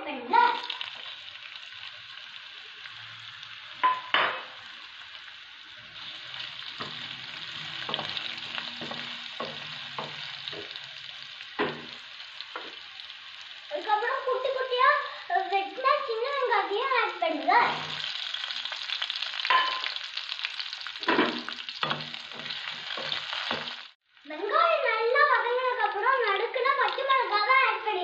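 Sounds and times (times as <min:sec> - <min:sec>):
food sizzling in a pan: 0:00.1 - 0:28.0.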